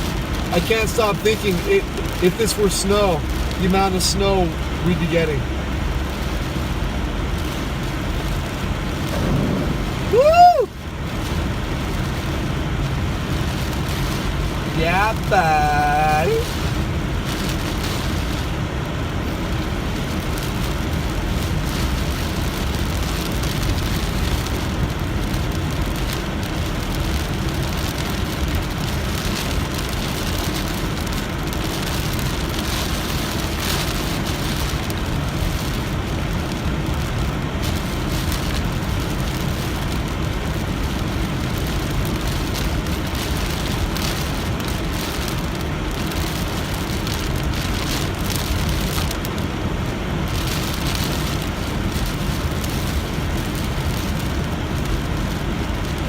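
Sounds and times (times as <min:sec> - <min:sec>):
car road and engine noise: 0:00.0 - 0:56.0
heavy rain on a car: 0:00.0 - 0:56.0.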